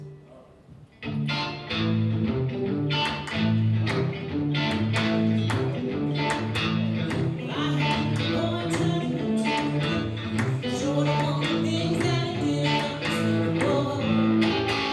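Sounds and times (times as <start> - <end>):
guitar strumming: 1.0 - 14.9.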